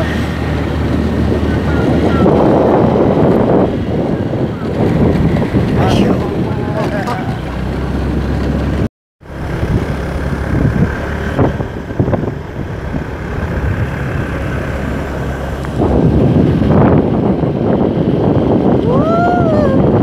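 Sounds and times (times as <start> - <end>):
motorcycle engine climbing uphill: 0.0 - 18.9.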